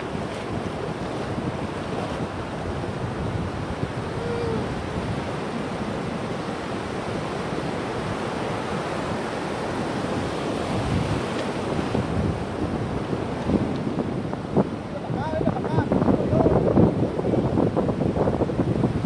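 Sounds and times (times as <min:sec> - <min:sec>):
ocean waves breaking: 0:00.0 - 0:16.0
wind buffeting microphone: 0:00.0 - 0:19.0.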